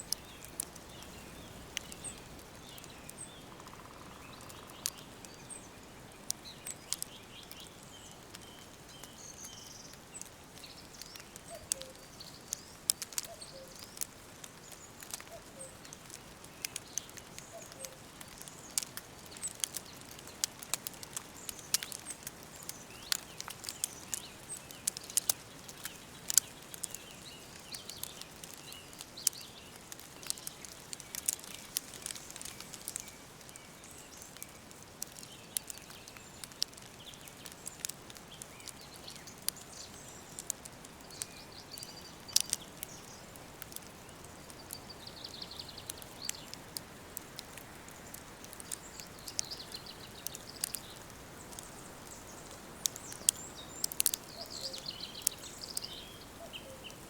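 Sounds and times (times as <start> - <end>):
faint birdsong chirps: 0.0 - 57.0
soft steady hiss: 0.0 - 57.0
wood fire crackling and popping: 0.0 - 57.0.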